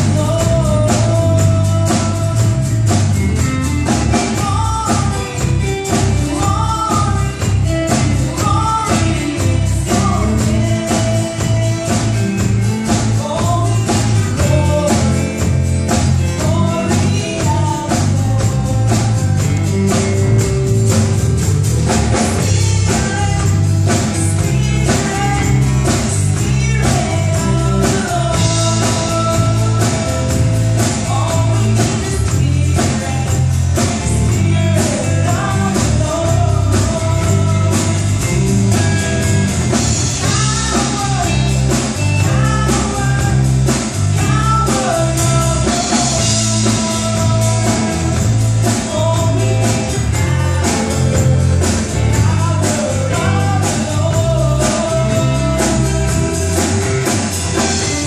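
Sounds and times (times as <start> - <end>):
woman singing lead: 0.0 - 21.2, 21.9 - 58.0
bass line: 0.0 - 58.0
guitar: 0.0 - 58.0
shaken tambourine: 0.0 - 58.0.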